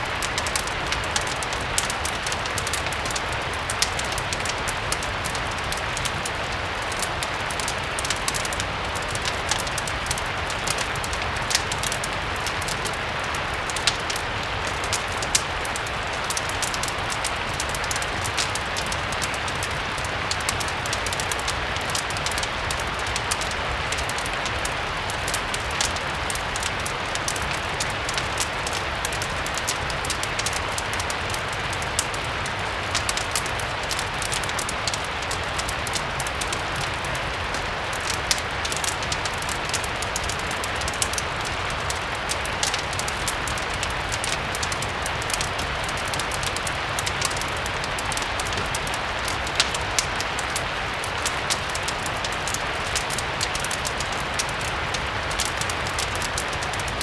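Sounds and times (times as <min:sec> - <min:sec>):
fireplace crackling: 0:00.0 - 0:57.0
steady rain: 0:00.0 - 0:57.0.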